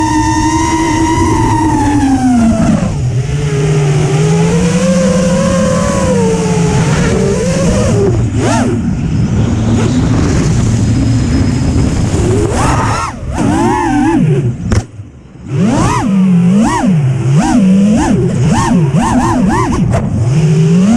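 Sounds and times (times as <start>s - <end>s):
drone propellers whining: 0.0s - 20.9s.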